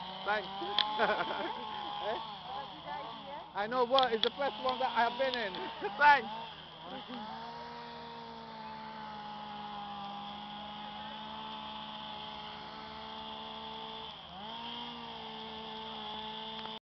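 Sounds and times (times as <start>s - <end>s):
motor hum: 0.0s - 16.8s.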